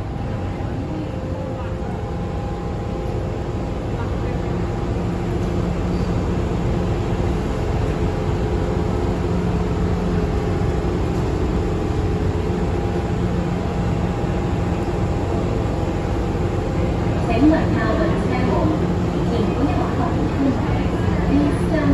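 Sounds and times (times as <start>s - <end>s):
constant humming tones: 0.0s - 21.9s
train interior rumble: 0.0s - 21.9s.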